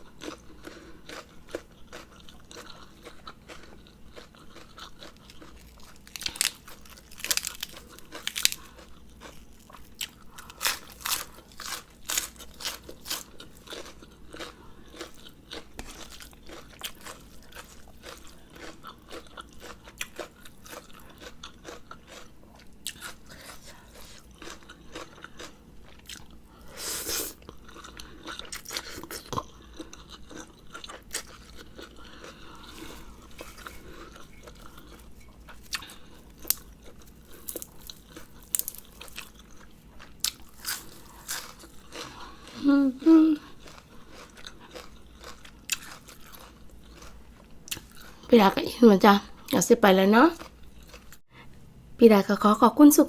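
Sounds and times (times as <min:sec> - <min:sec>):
chewing and crunching food: 0:00.0 - 0:51.6.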